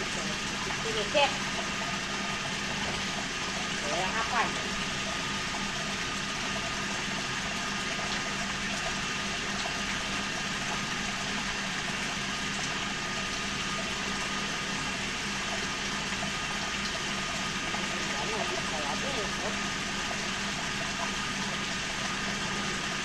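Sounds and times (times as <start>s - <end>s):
water running: 0.0s - 23.0s.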